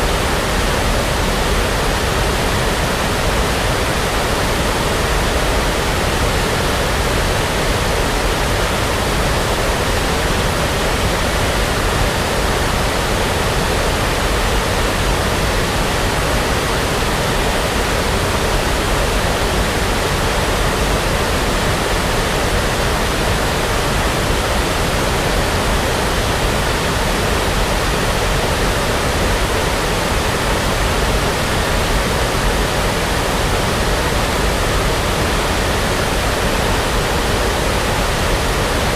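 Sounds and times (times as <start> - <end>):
steady brown noise: 0.0 - 38.9.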